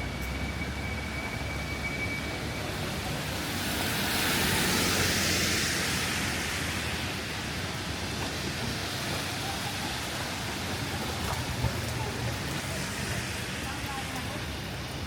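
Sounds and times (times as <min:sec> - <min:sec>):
rainy street ambience: 0:00.0 - 0:15.0
vehicle tyres hissing on wet road: 0:00.0 - 0:15.0.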